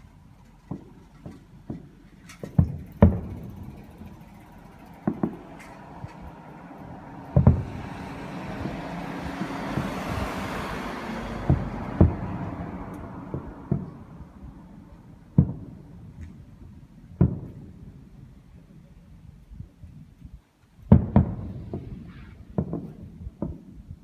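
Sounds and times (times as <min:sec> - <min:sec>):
fireworks booming: 0:00.0 - 0:18.8, 0:20.9 - 0:24.0.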